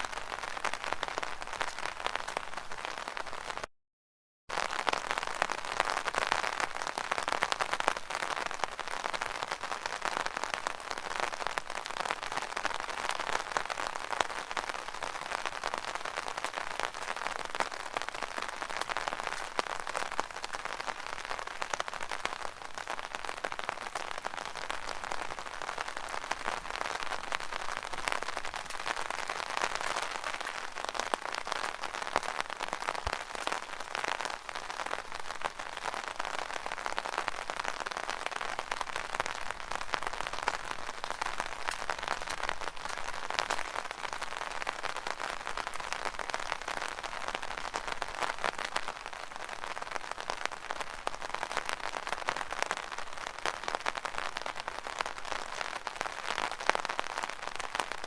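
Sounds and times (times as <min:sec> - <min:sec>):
rain on an umbrella: 0:00.0 - 0:03.7, 0:04.5 - 0:58.0.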